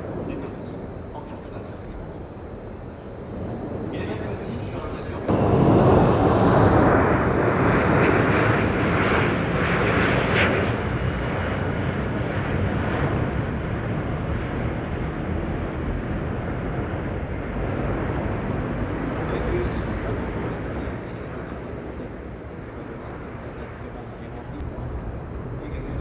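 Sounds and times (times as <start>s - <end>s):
aircraft engine roar: 0.0s - 26.0s.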